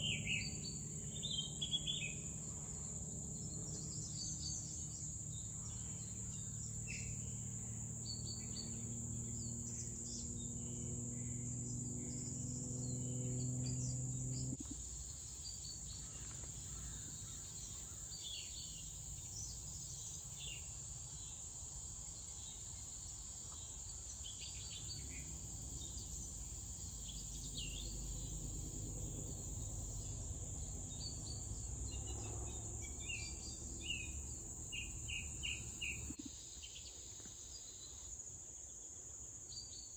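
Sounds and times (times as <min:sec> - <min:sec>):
low steady hum: 0:00.0 - 0:36.2
crickets trilling: 0:00.0 - 0:39.9.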